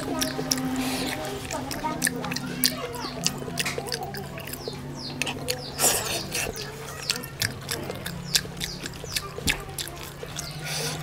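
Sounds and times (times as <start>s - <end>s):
lip-smacking chewing: 0.0s - 11.0s
sticky squelching clicks of fingers: 0.0s - 11.0s.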